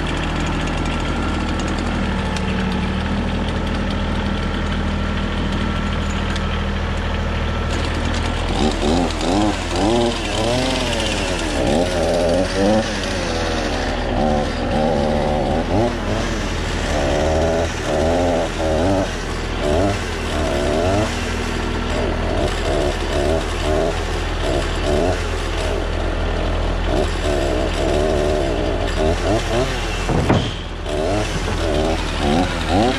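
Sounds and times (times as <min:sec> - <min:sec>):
tractor diesel engine under load: 0:00.0 - 0:32.9.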